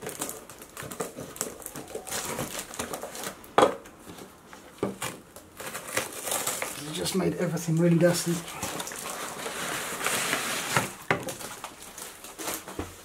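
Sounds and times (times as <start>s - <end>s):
padded envelope rustling: 0.0s - 3.4s, 4.0s - 13.0s.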